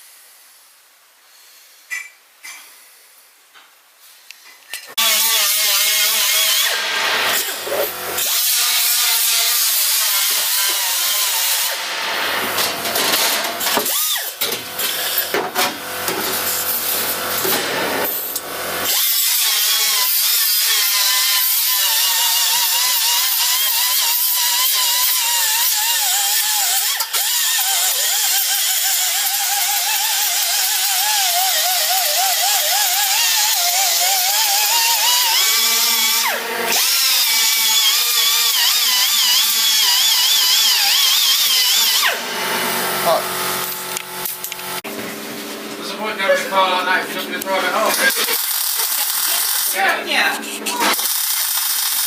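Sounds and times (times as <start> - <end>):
angle grinder on sheet metal: 4.9 - 44.8, 47.5 - 52.0.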